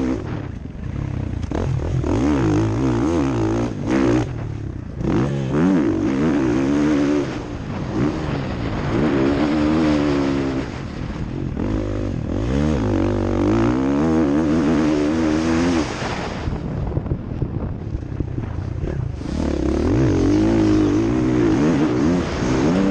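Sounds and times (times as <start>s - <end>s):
motocross bike engine revving: 0.0s - 16.4s, 18.7s - 22.9s.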